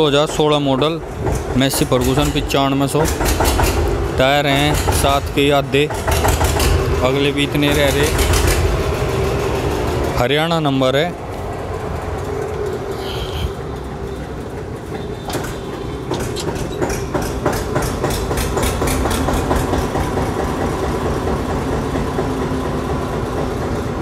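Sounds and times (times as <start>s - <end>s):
ticking engine clatter: 0.1s - 24.0s.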